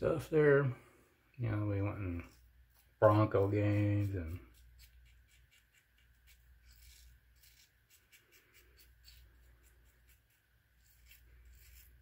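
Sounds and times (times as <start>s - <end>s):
razor scraping stubble: 1.6s - 12.0s.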